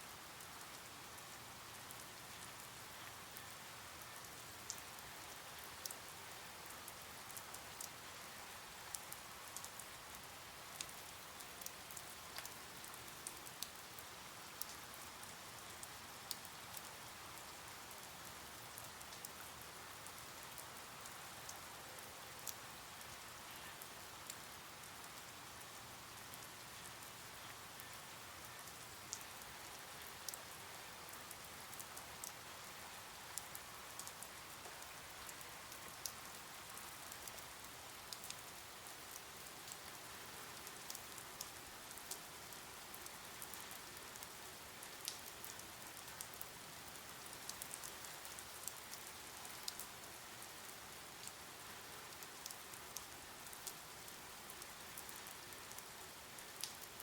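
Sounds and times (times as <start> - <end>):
rain hiss: 0.0 - 57.0.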